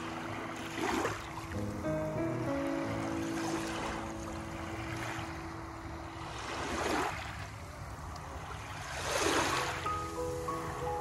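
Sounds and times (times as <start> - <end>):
waves lapping on pebbly shore: 0.0 - 11.0.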